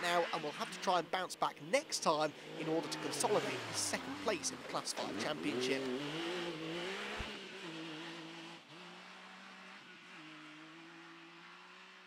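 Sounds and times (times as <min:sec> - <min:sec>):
race car engine running: 0:00.0 - 0:11.9.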